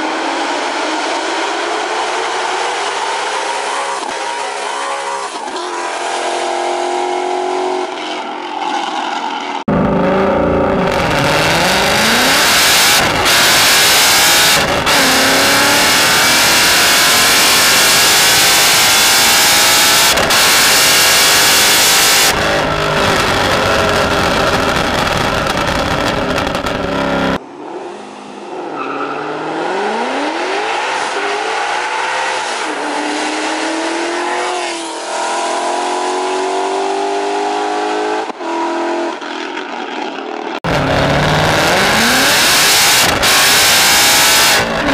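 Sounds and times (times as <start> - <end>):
car engine revving: 0.0 - 40.0, 40.6 - 44.9.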